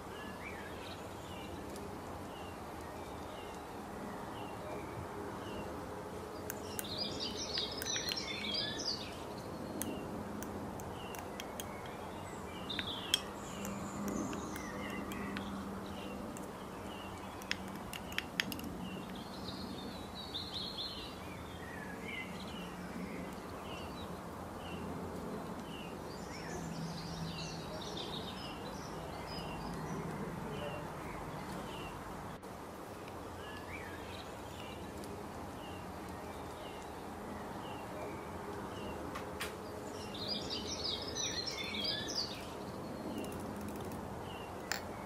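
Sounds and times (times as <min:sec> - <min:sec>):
small birds chirping and trilling: 0:00.0 - 0:45.0.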